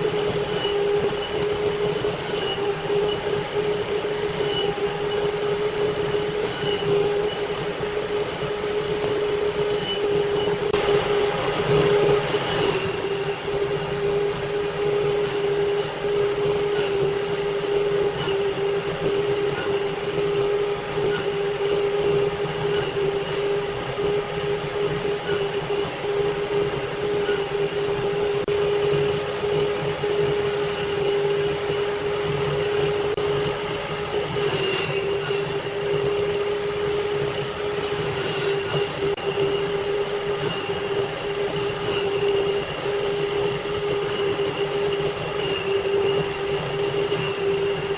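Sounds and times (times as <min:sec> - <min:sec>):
power tool motor running: 0:00.0 - 0:47.9.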